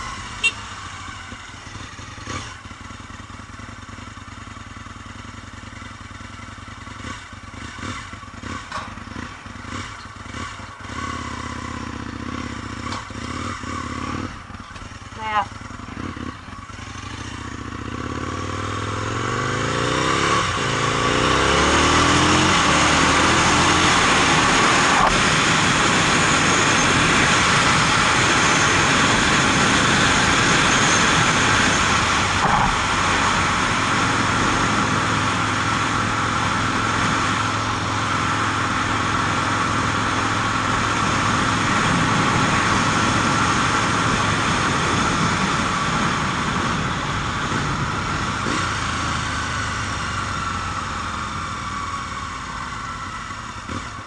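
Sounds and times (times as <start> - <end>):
motorcycle engine accelerating: 0.0 - 54.0
road noise: 0.0 - 54.0.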